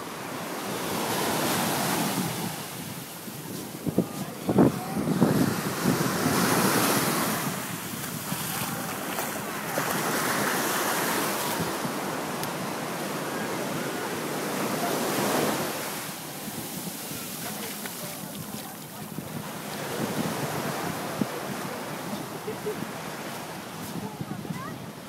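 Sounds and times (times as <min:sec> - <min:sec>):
small waves breaking on sand: 0:00.0 - 0:25.0
wind gusting on microphone: 0:00.0 - 0:25.0.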